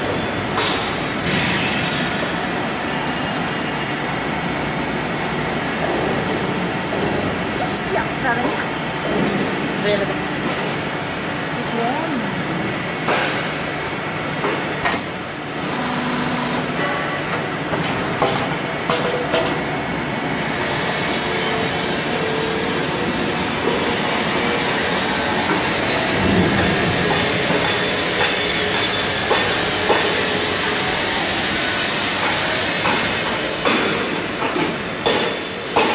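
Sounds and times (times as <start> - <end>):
roll forming machine rumbling: 0.0 - 35.9.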